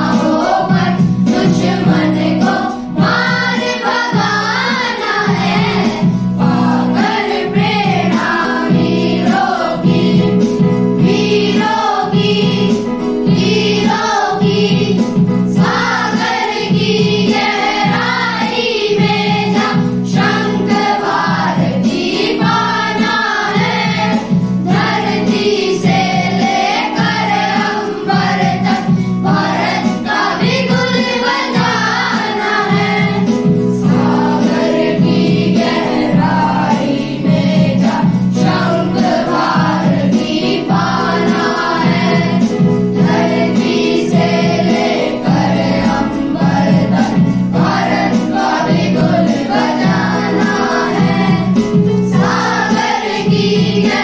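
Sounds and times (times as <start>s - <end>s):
boys choir singing: 0.0s - 54.0s
instrumental accompaniment with beat: 0.0s - 54.0s.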